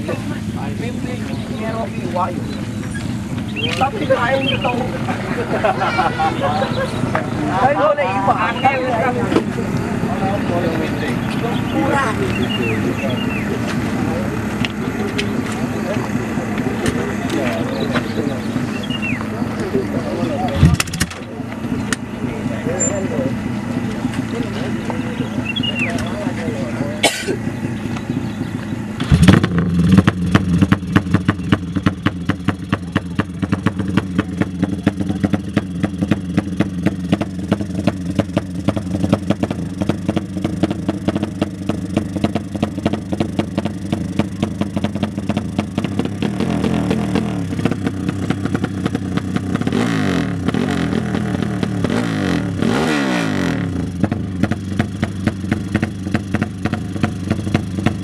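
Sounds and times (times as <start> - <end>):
racing motorcycle engines revving: 0.0 - 58.0.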